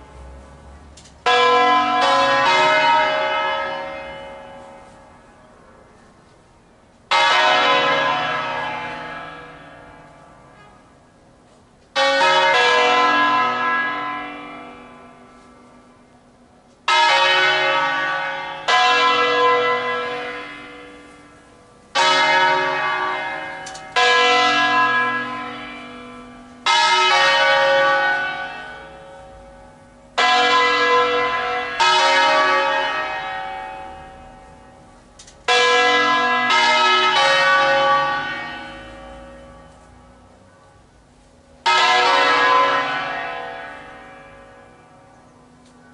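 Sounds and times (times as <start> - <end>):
large church bells tolling: 1.2 - 5.9, 7.1 - 45.9.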